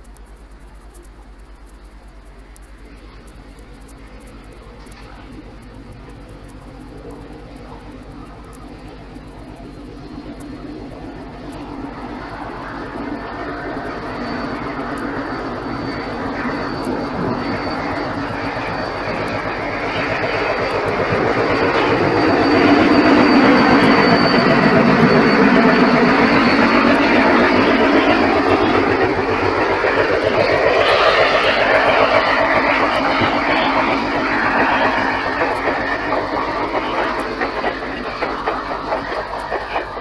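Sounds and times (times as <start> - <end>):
diesel locomotive engine drone: 0.0 - 40.0
train coaches rolling past: 0.0 - 40.0.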